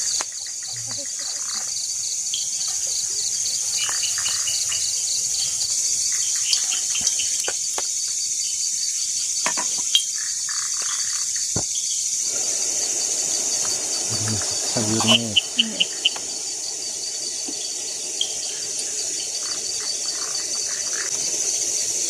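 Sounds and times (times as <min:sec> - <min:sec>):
crickets and insects chirping: 0:00.0 - 0:22.0.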